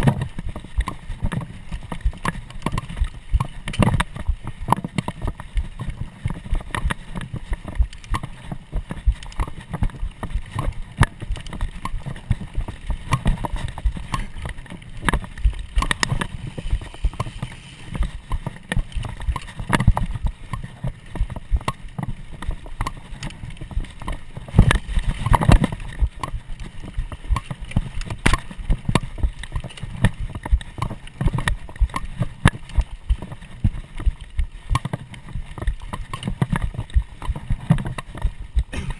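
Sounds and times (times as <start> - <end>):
bike clattering over bumps: 0.0 - 38.9
wind rumble on microphone: 0.0 - 38.9.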